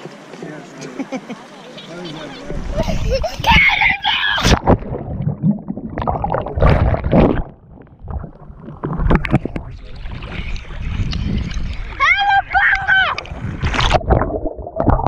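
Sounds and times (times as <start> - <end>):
water splashing against camera: 0.0 - 15.0.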